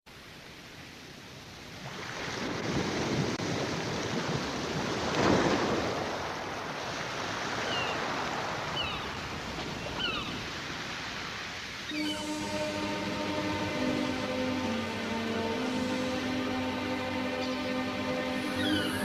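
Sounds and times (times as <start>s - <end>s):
sea waves breaking on a beach: 0.1s - 19.0s.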